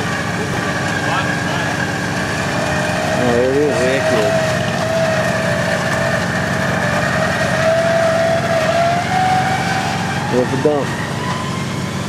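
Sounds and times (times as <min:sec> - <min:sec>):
winch whining: 0:00.0 - 0:12.0.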